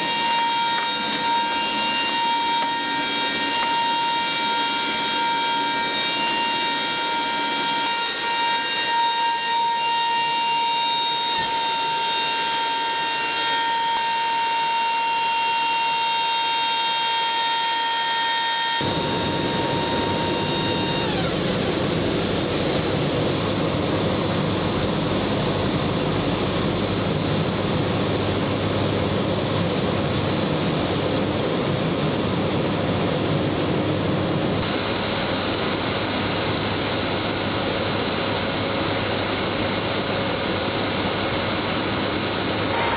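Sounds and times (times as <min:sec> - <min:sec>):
aircraft engine whine: 0:00.0 - 0:42.9.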